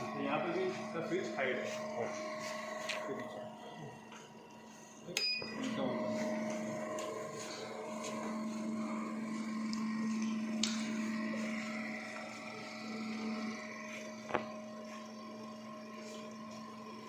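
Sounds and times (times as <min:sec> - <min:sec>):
ventilator compressor humming: 0:00.0 - 0:17.0.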